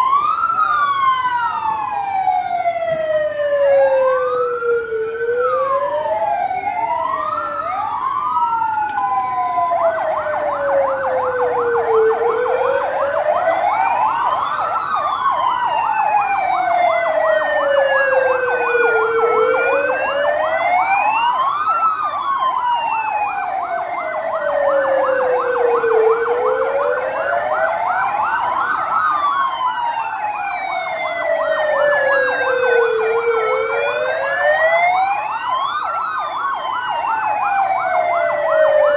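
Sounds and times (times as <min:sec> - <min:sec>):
fast warbling siren yelp: 0:00.0 - 0:38.9
siren wail rising and falling: 0:00.0 - 0:38.9.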